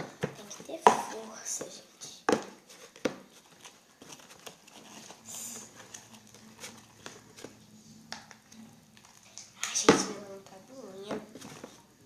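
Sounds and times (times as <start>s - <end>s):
slime squelching: 0.0s - 12.0s.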